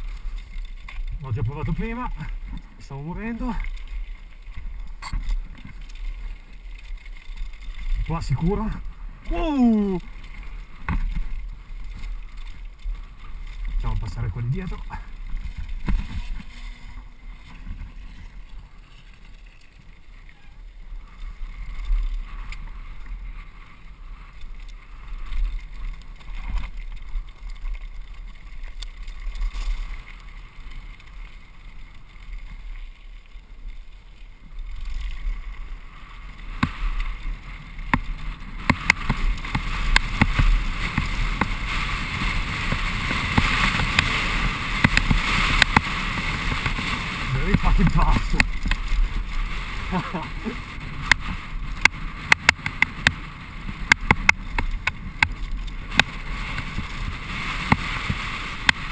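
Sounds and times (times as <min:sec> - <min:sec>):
bike clicks and rattles: 0:00.0 - 0:58.9
tyres crunching over gravel: 0:00.0 - 0:58.9
wind rumbling on microphone: 0:00.0 - 0:58.9.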